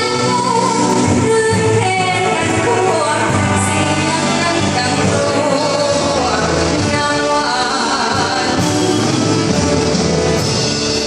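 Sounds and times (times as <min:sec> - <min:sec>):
person singing: 0:00.0 - 0:09.9
live band with brass: 0:00.0 - 0:11.0.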